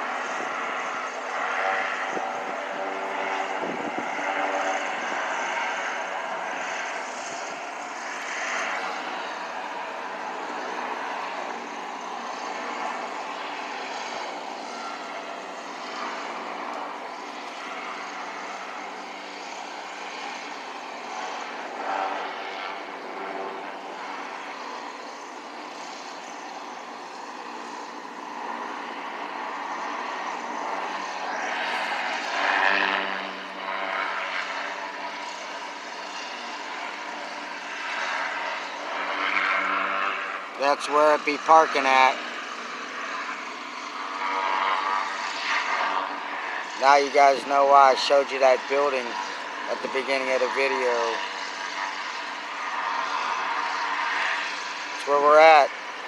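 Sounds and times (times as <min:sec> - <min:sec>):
airship propeller engines droning: 0:00.0 - 0:56.0.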